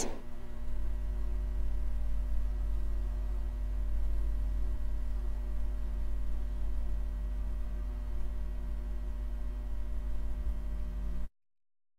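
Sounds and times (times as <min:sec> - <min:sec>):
low electrical hum: 0:00.0 - 0:11.3.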